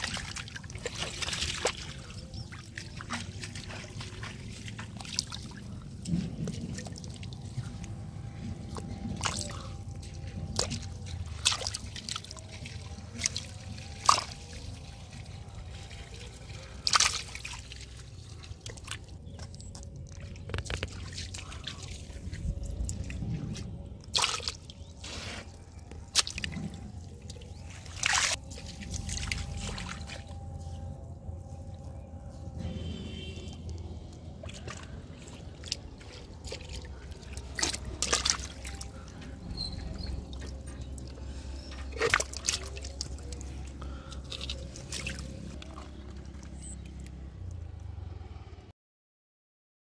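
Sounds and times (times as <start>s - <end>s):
shallow muddy water splashing: 0.0s - 48.5s.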